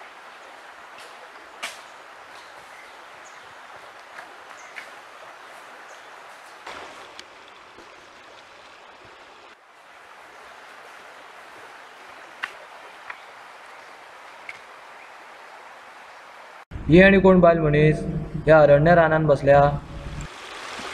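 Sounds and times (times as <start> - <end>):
steady outdoor hiss: 0.0 - 20.9.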